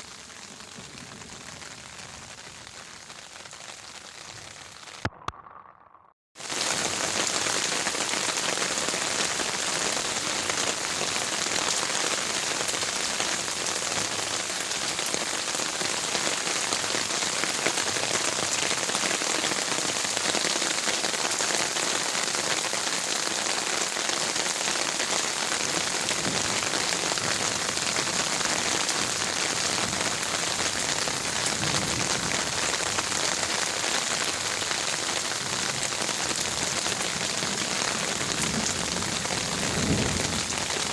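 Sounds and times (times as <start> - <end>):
heavy rain on leaves: 0.0 - 5.1, 6.4 - 40.9.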